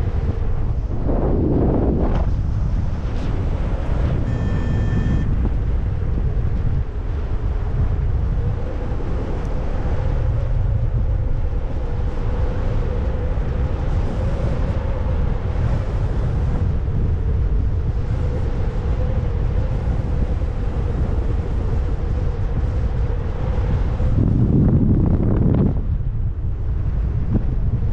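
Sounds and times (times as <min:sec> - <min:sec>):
faint steady hum: 0:00.0 - 0:27.9
wind buffeting microphone: 0:00.0 - 0:27.9.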